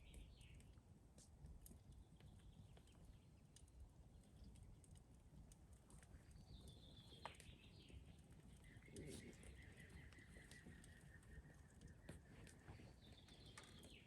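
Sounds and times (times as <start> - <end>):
soft ticks: 0.1 - 14.0.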